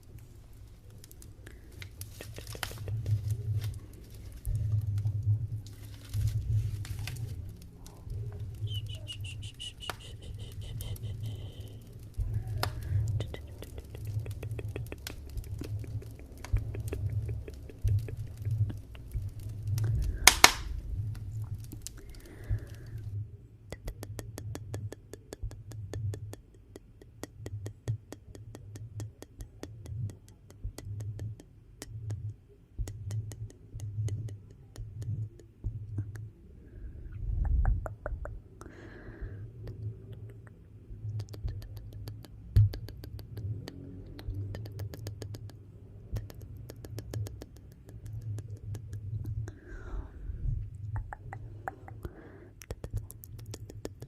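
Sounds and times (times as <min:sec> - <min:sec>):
low rumble of flames: 0:00.0 - 0:26.4, 0:27.2 - 0:54.0
wood fire crackling and popping: 0:00.0 - 0:36.3, 0:37.1 - 0:54.0.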